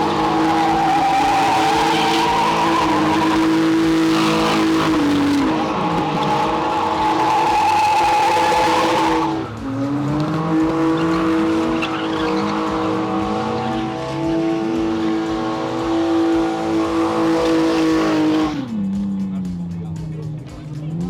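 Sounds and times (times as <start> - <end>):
tyres squealing: 0.0 - 18.6
car engine at high revs: 0.0 - 21.0
car engine revving up and down: 0.0 - 21.0.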